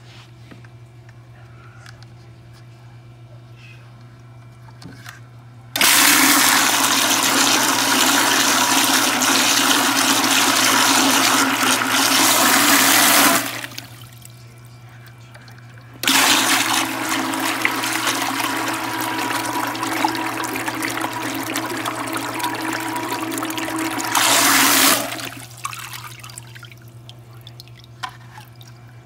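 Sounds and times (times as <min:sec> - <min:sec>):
pump motor humming: 0:05.8 - 0:29.0.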